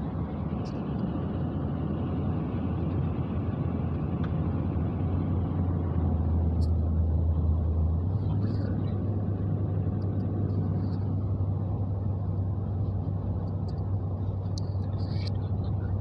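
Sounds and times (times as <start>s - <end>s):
car engine drone: 0.0s - 16.0s
tyres on highway: 0.0s - 16.0s.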